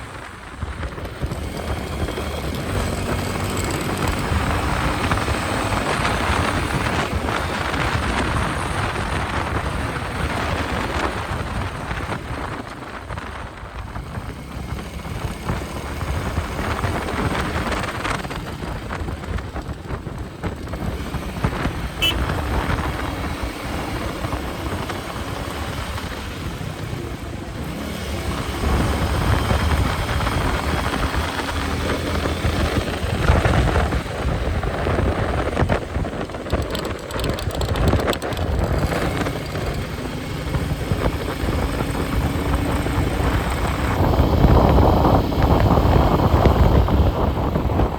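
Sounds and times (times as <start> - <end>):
motorcycle engine cruising: 0.0 - 47.9
wind rushing over microphone: 0.0 - 47.9.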